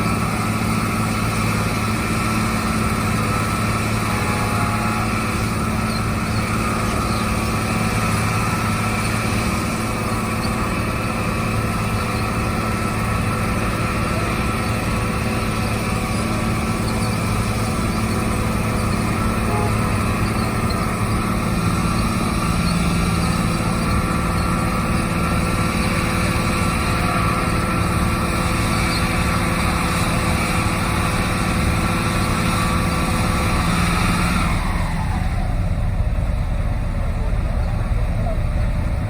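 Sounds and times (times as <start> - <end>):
construction machine engine whining: 0.0 - 39.0.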